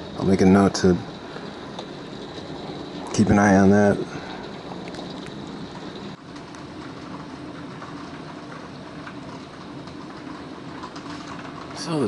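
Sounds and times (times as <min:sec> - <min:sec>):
heavy rain on wooden deck: 0:00.0 - 0:12.0.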